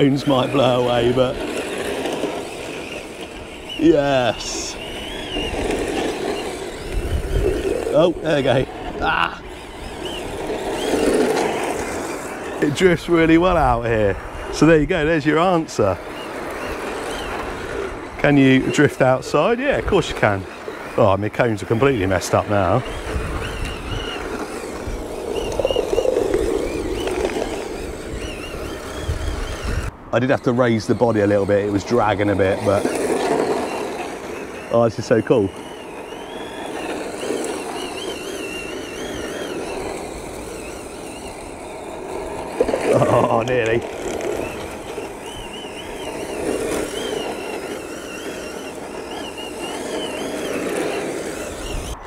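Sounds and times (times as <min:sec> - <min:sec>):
wind on microphone: 0:00.0 - 0:20.3, 0:21.5 - 0:31.8, 0:36.5 - 0:52.0
electric motor whine: 0:00.0 - 0:52.0
tyres scrubbing on asphalt: 0:00.0 - 0:52.0.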